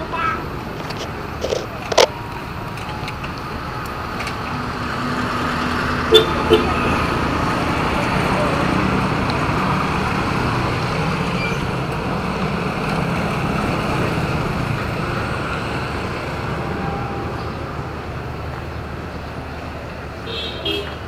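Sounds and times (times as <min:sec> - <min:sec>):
road traffic noise: 0:00.0 - 0:21.0
vehicle engine humming low: 0:00.0 - 0:21.0.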